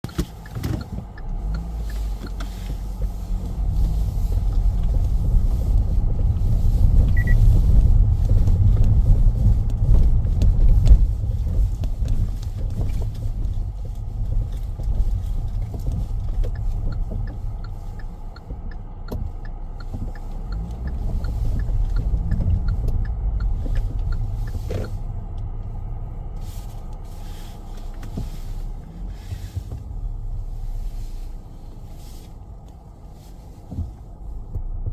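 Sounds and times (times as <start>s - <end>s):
car tyres and engine rumble: 0.0s - 34.9s
faint ticks: 0.1s - 6.6s, 7.2s - 29.0s.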